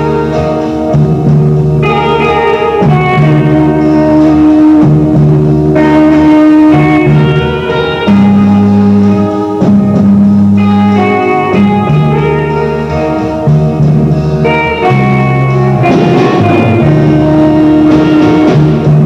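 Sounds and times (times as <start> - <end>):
held bass notes: 0.0 - 19.0
instrumental guitar music: 0.0 - 19.0.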